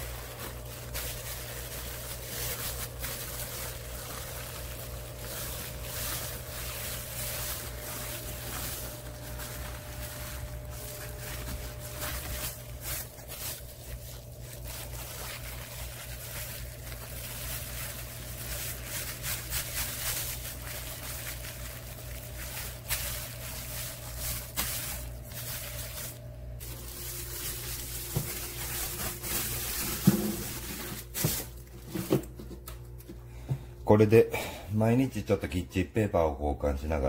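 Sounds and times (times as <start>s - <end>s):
plastic bag rustling: 0.0s - 32.6s.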